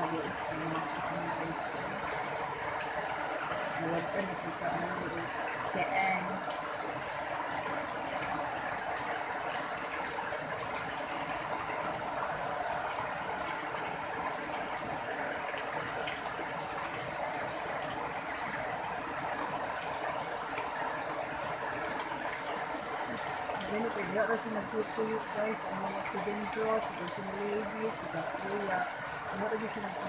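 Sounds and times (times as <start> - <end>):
heavy rain on water: 0.0 - 30.0.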